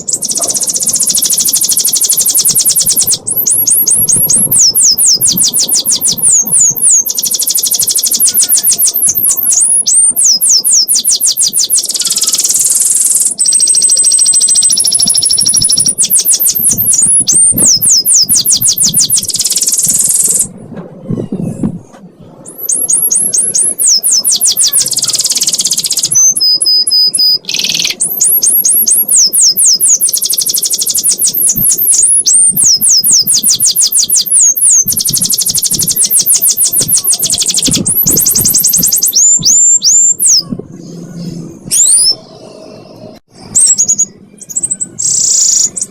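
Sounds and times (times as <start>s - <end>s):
canary singing: 0.0s - 21.6s, 22.4s - 45.9s.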